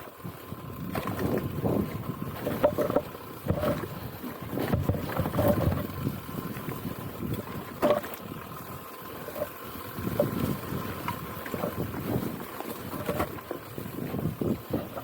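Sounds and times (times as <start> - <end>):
wind buffeting microphone: 0.2 - 15.0.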